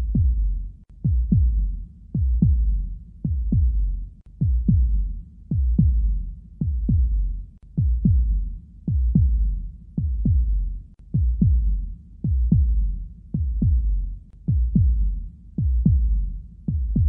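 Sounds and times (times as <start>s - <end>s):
constant low rumble: 0.0s - 17.0s
heartbeat thumps: 0.0s - 17.0s.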